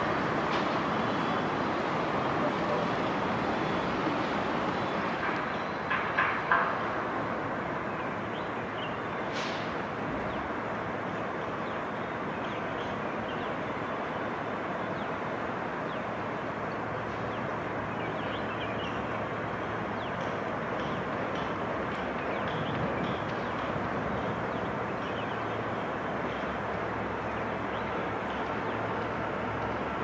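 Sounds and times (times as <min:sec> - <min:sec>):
diesel locomotive engine rumble: 0:00.0 - 0:30.0.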